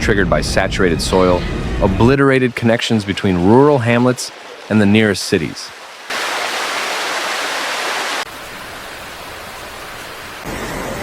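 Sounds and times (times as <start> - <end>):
rushing floodwater: 1.2 - 11.0.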